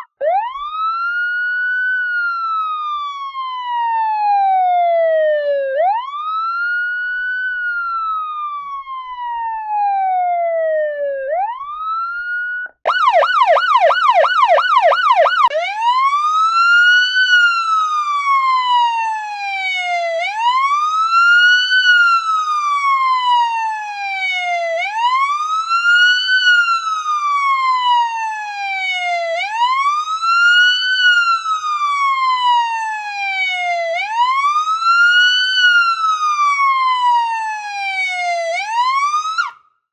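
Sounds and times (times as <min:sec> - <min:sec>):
police siren wail and yelp: 0:00.0 - 0:39.9.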